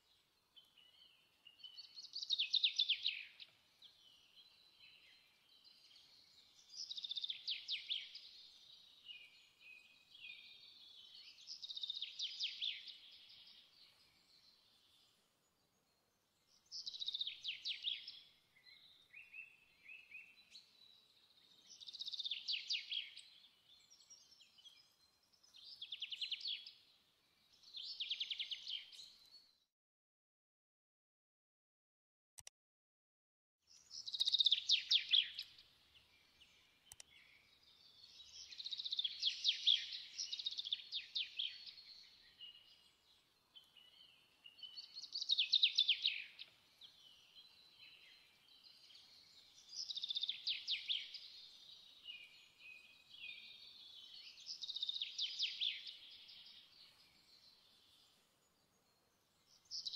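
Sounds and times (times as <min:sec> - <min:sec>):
soft bird chirps: 0:00.0 - 0:29.7, 0:33.7 - 0:59.9.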